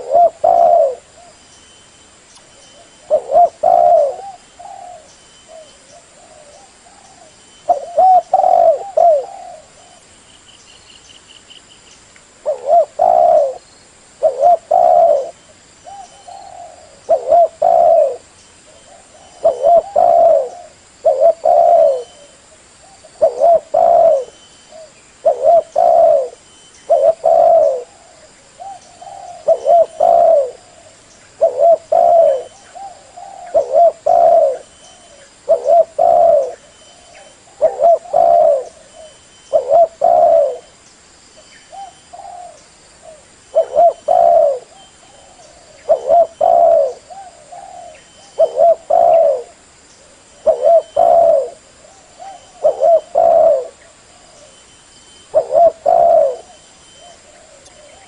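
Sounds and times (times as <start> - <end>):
dove cooing: 0.0 - 1.4, 2.7 - 10.1, 12.4 - 13.6, 14.2 - 40.7, 41.6 - 54.6, 55.3 - 58.0.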